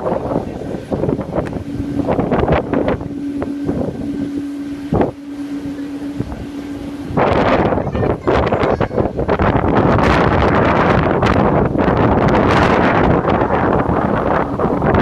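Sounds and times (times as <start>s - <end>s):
steady hum: 0.0s - 15.0s
wind buffeting microphone: 0.0s - 15.0s.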